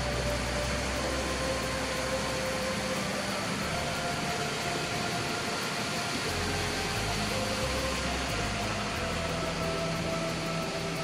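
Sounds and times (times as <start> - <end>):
whitewater rushing over boulders: 0.0 - 11.0.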